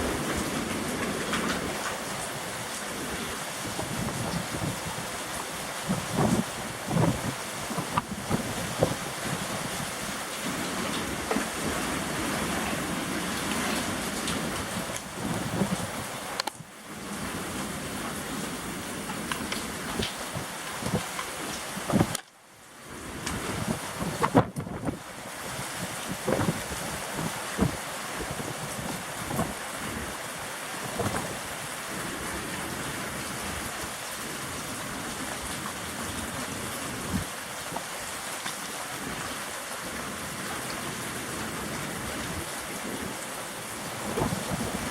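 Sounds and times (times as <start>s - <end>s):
rain in gusting wind: 0.0s - 44.9s.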